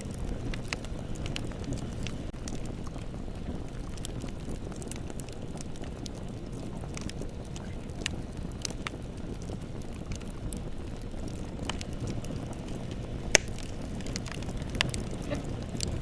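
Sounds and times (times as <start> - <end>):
bonfire rushing: 0.0 - 16.0
fire crackling and popping: 0.0 - 16.0.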